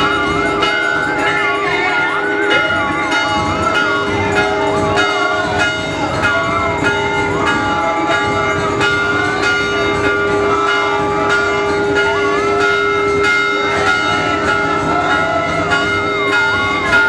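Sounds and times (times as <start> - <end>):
brass hand bells ringing: 0.0 - 17.0.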